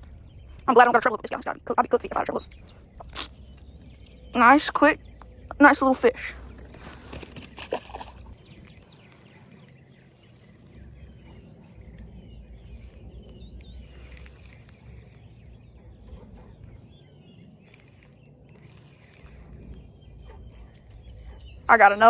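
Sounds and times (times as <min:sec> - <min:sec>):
birds chirping: 0:00.0 - 0:22.0
low rumble: 0:00.0 - 0:22.0.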